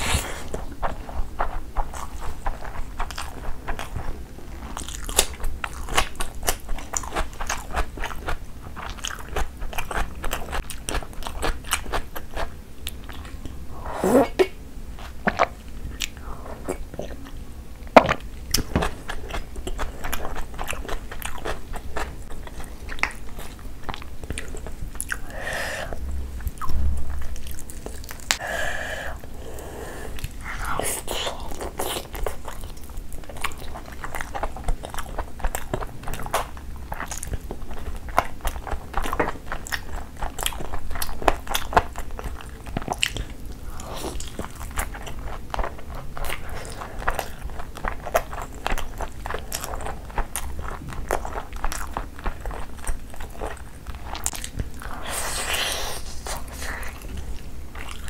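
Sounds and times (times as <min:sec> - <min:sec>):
wet chewing and smacking: 0:00.5 - 0:13.6, 0:18.0 - 0:25.3, 0:26.4 - 0:28.4, 0:30.1 - 0:58.0.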